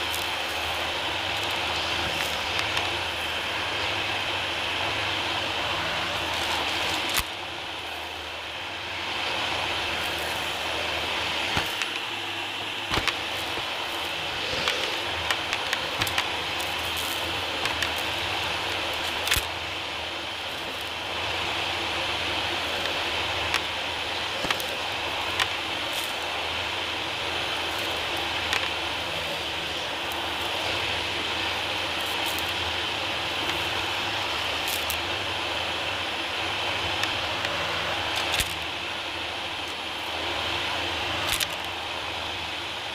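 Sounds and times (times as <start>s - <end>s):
grit clicking in vacuum: 0.0s - 8.3s, 9.1s - 42.1s
vacuum cleaner running: 0.0s - 42.9s.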